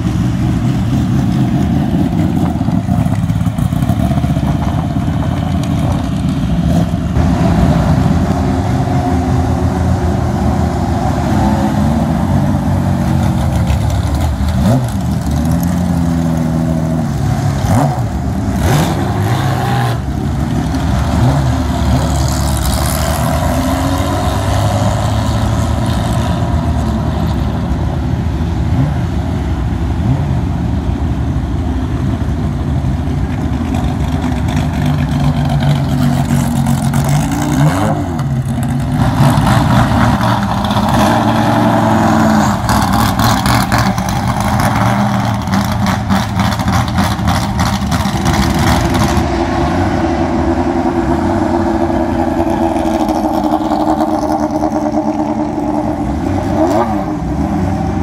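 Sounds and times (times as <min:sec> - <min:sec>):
race car engines with throttle blips: 0:00.0 - 0:58.0.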